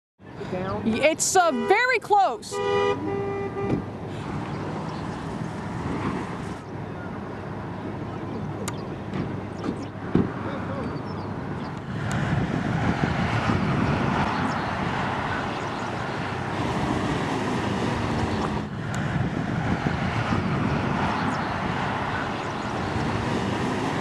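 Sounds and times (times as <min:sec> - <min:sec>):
wind blowing across microphone: 0:03.5 - 0:24.0.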